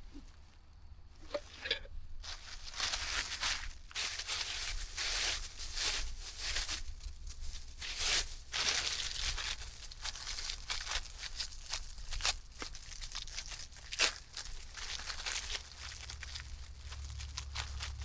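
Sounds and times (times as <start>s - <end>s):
material crinkling and rustling: 1.2s - 18.0s.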